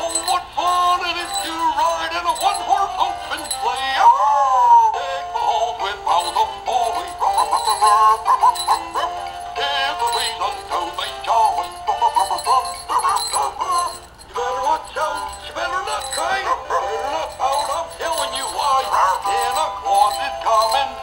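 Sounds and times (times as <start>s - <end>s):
christmas song from a toy speaker: 0.0s - 21.0s
toy playing sung christmas song: 0.0s - 21.0s.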